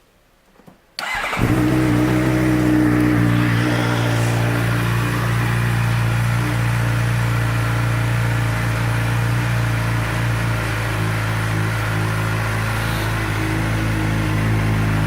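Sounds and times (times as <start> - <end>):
motorcycle engine idling: 1.0 - 15.0.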